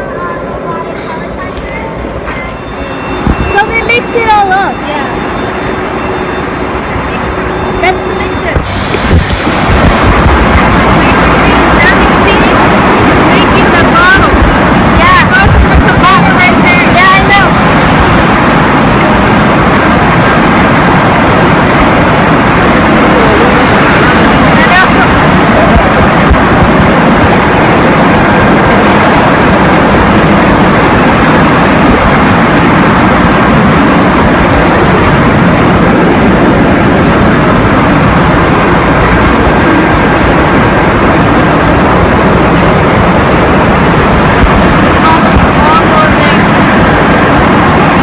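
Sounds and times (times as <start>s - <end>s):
factory machinery din: 0.0s - 48.0s.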